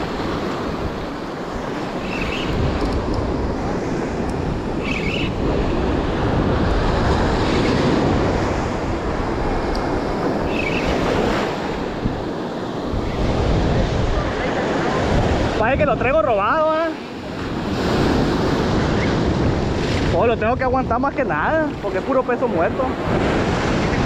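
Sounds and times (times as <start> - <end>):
surf washing up beach: 0.0 - 24.0
wind buffeting microphone: 0.0 - 24.0.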